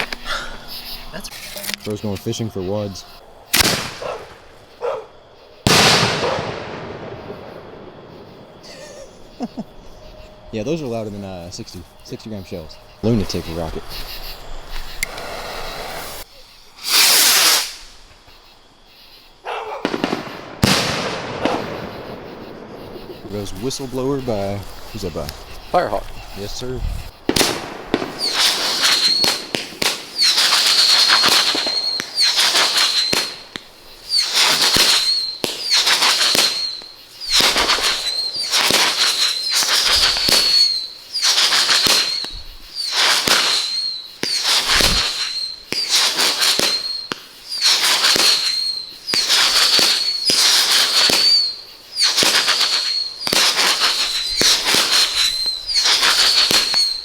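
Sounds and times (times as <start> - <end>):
firework crackling bursts: 0.0 - 57.0
fireworks whistling: 0.0 - 57.0.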